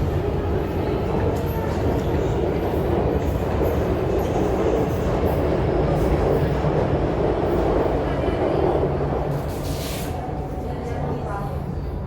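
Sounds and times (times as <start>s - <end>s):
metro train wheels on track: 0.0s - 12.0s.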